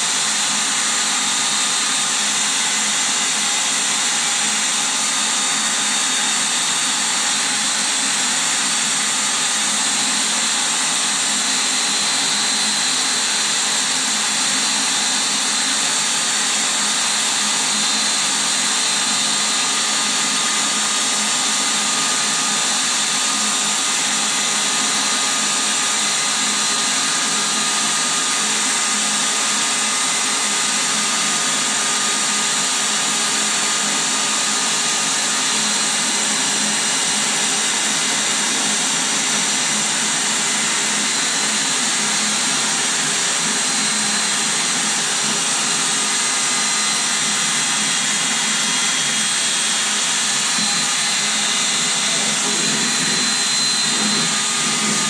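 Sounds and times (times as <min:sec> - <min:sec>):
electric air pump blowing: 0:00.0 - 0:55.0.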